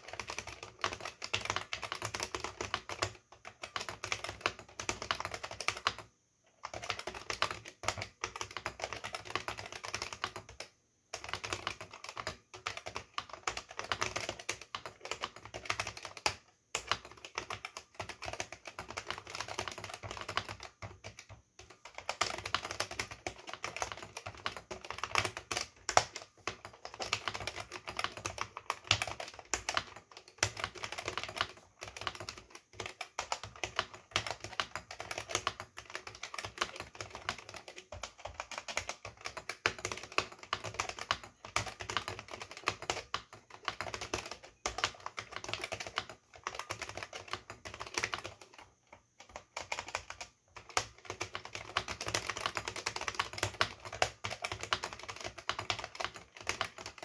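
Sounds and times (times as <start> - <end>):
fast keyboard typing: 0.0 - 57.0.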